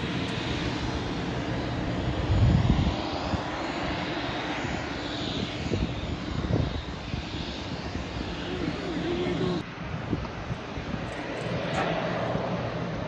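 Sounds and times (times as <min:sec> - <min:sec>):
airliner engines rumbling: 0:00.0 - 0:13.0.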